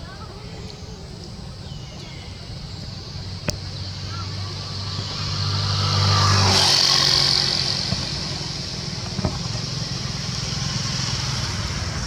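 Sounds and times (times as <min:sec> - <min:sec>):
vehicle engine passing: 0:01.4 - 0:12.0.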